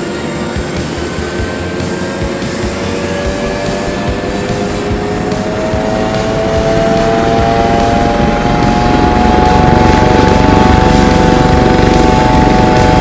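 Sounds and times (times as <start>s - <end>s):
helicopter rotor chop: 0.0s - 13.0s
helicopter turbine whine: 0.0s - 13.0s.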